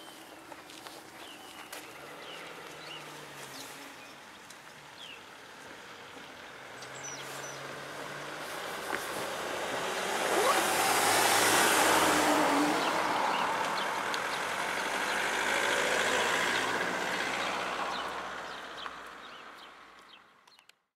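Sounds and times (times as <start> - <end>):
cars driving past: 0.0 - 20.4.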